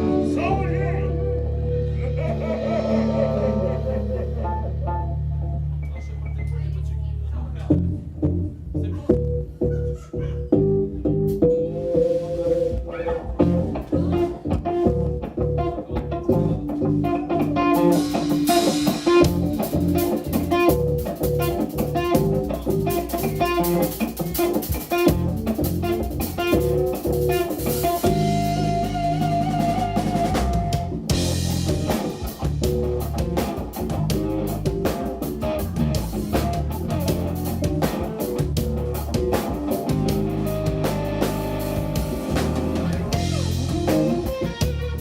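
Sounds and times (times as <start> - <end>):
bass guitar: 0.0 - 45.0
electric guitar lead: 0.0 - 45.0
drum kit with cymbals: 1.5 - 5.2, 11.2 - 45.0.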